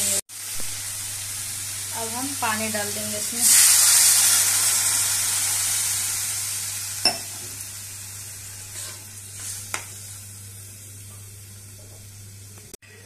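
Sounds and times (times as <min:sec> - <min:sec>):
water sizzling in hot pan: 0:00.0 - 0:12.8.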